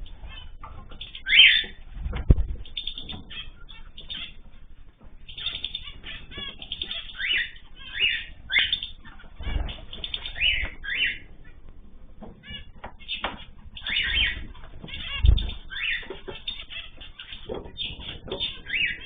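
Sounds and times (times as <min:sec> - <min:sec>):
small birds chirping: 0:00.0 - 0:19.0
wings fluttering: 0:00.0 - 0:19.0.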